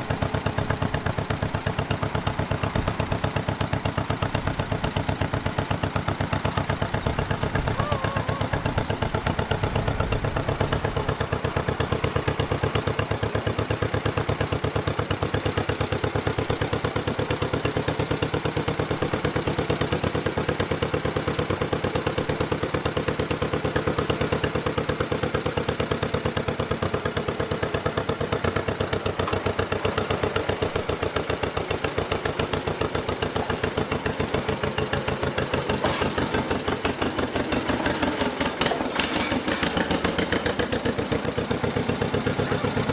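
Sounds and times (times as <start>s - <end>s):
tractor engine chugging: 0.0s - 42.9s.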